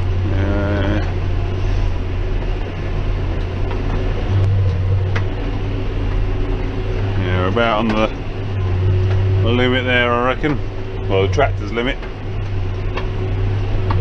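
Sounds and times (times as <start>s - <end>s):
tractor engine under heavy load: 0.0s - 14.0s.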